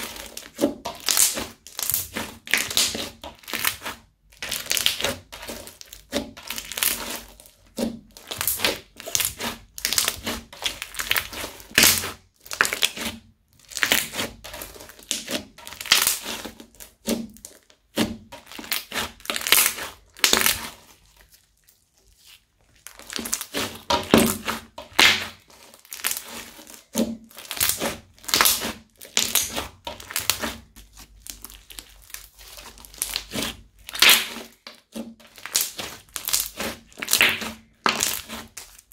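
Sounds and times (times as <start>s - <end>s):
crunchy slime being kneaded: 0.0s - 38.9s.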